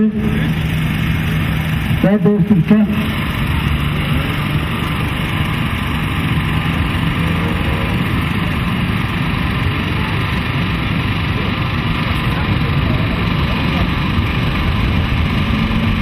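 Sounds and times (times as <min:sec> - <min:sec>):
racing truck engines droning: 0:00.0 - 0:16.0.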